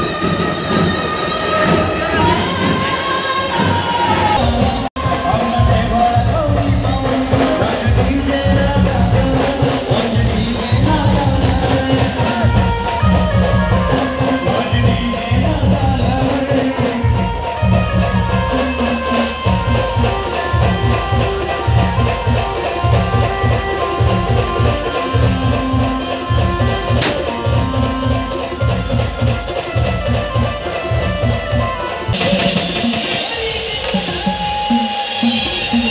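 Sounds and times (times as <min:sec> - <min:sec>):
procession band playing: 0:00.0 - 0:35.9.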